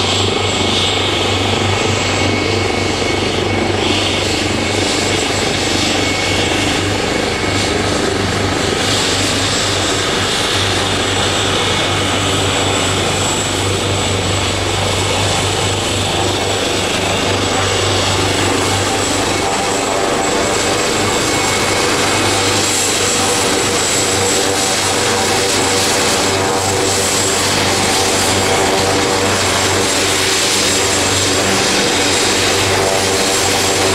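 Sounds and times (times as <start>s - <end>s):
helicopter engines and rotor running: 0.0s - 33.9s.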